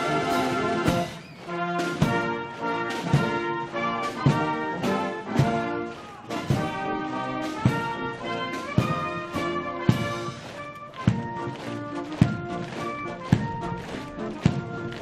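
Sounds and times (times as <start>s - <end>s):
brass band playing a march: 0.0s - 15.0s.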